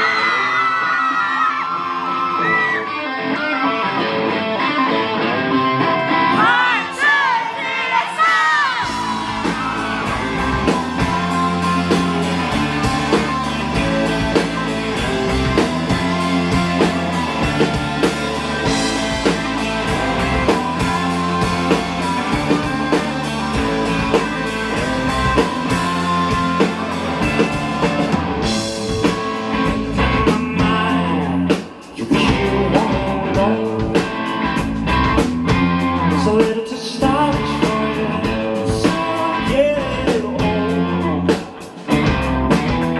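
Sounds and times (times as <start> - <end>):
guitar: 0.0 - 42.9
live rock band playing: 0.0 - 42.9
drum kit: 8.3 - 42.9.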